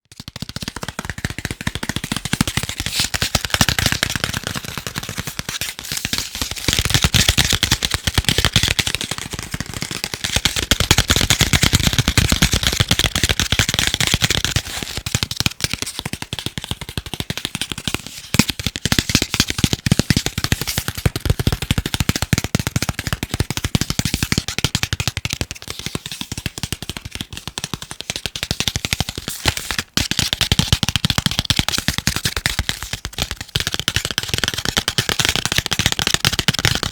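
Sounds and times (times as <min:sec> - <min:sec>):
fast tapping on chocolate: 0:00.1 - 0:36.9.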